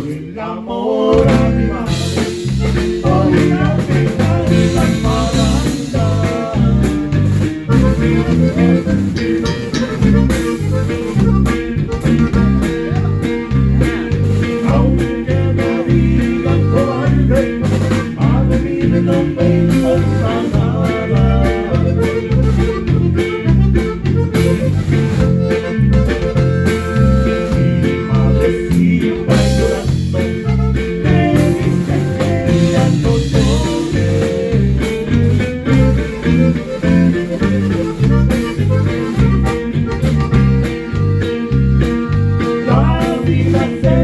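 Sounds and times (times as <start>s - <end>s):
electric guitar: 1.2s - 44.0s
repeating bass line: 1.2s - 44.0s.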